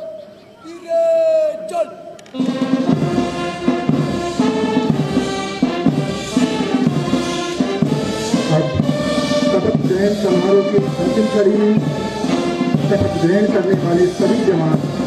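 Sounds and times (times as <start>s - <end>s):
brass band playing: 2.3s - 15.0s.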